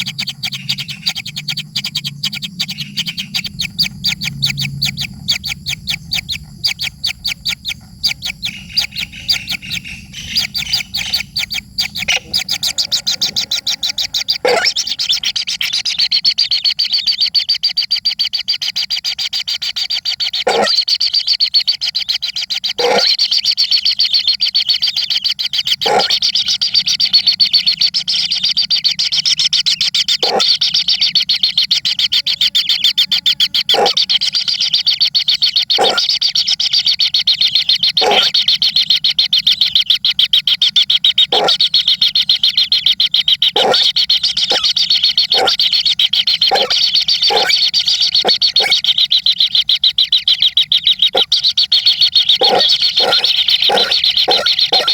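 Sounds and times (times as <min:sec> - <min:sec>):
baby birds chittering: 0:00.0 - 0:54.9.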